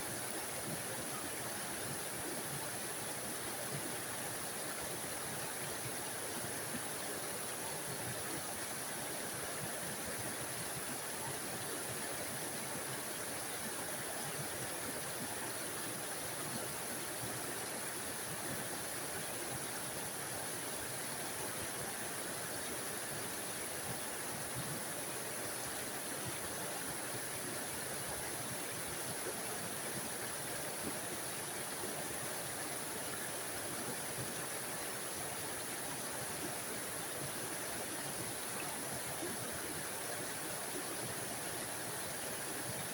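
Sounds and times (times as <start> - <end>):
small waterfall rushing: 0.0 - 42.9.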